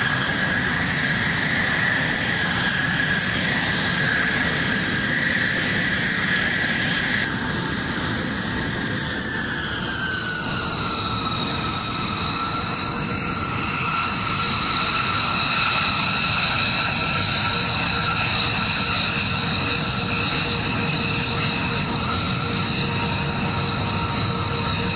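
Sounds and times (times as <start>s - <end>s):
jet engines whining: 0.0s - 24.9s.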